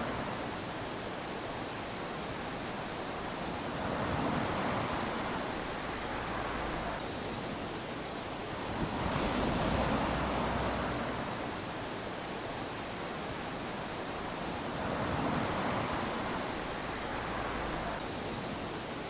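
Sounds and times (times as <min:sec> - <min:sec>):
waves lapping on a beach: 0:00.0 - 0:19.0.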